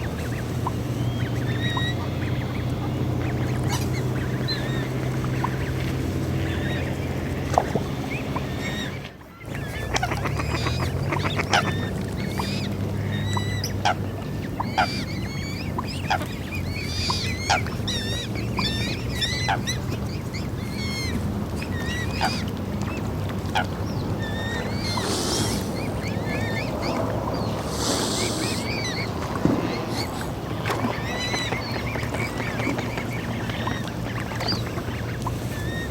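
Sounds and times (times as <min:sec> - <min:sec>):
low steady rumble: 0:00.0 - 0:35.9
swans honking and calling: 0:00.0 - 0:35.9.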